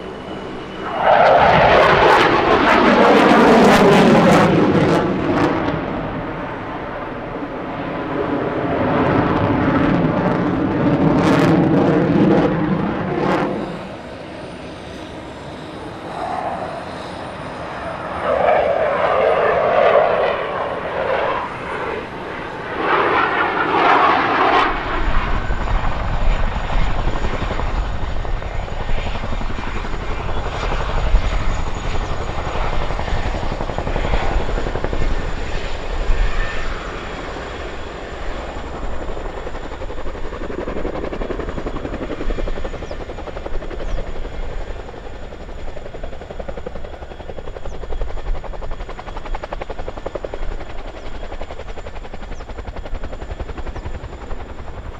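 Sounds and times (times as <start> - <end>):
helicopter rotors beating: 0.0 - 54.9
high turbine whine: 0.0 - 54.9
jet engines roaring: 0.0 - 54.9.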